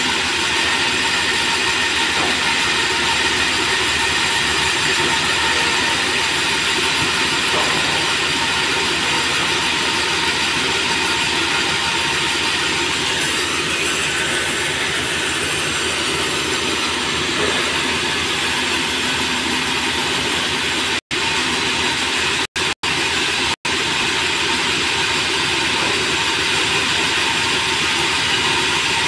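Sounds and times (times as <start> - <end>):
band saw sawing boards: 0.0 - 29.0
roller conveyor running: 0.0 - 29.0.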